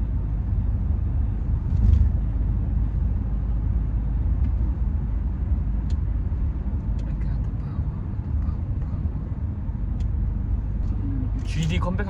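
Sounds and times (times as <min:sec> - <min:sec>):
low rumble of moving vehicle: 0:00.0 - 0:12.0.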